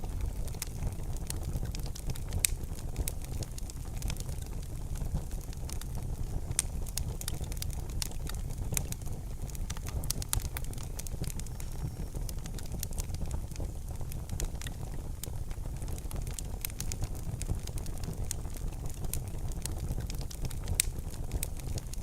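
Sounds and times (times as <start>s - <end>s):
fire crackling in a fireplace: 0.0s - 22.0s.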